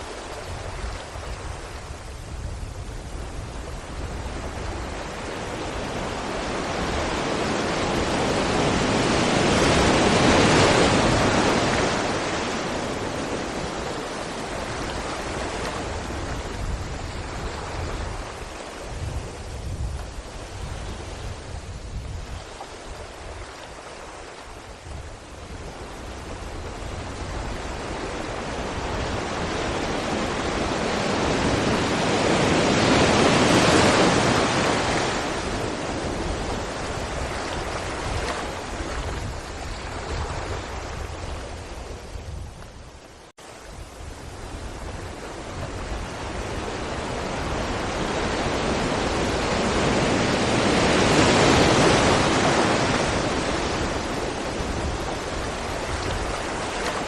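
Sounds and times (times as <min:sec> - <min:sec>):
sea waves breaking against rocks: 0:04.0 - 0:42.8, 0:44.0 - 0:57.0.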